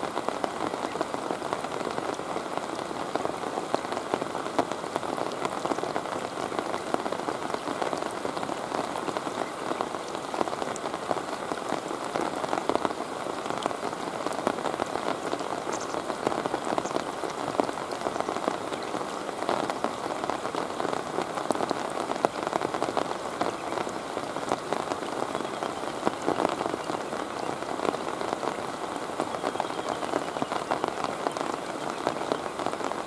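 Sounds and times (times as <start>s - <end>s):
rain falling on water: 0.0s - 33.0s.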